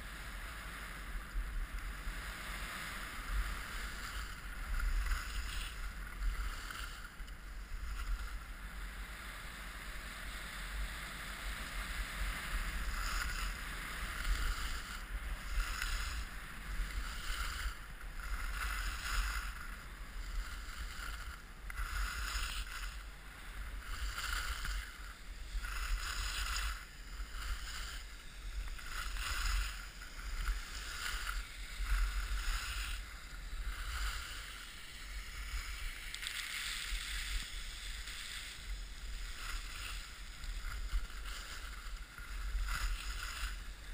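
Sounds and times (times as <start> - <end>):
skis scraping over snow: 0.0 - 43.9.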